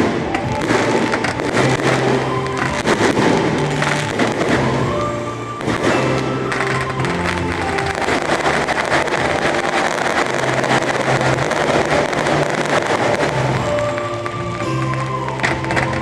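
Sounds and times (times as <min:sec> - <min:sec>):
faint stadium music: 0:00.0 - 0:16.0
fireworks crackling and banging: 0:00.0 - 0:16.0.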